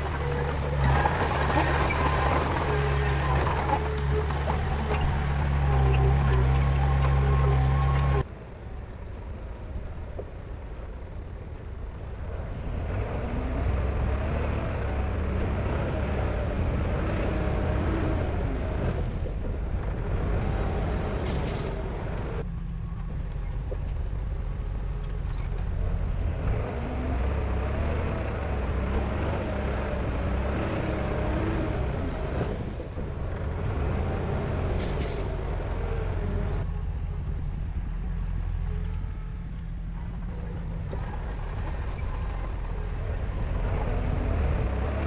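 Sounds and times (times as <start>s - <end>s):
heavy diesel engine rumbling: 0.0s - 8.3s, 12.4s - 45.0s.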